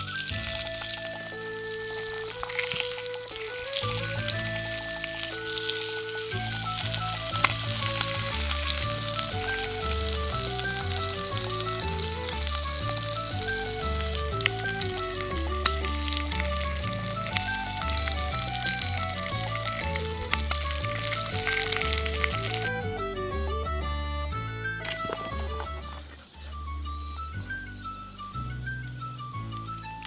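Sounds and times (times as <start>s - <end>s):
background music with bass: 0.0s - 30.0s
sausages sizzling and popping: 0.0s - 30.0s.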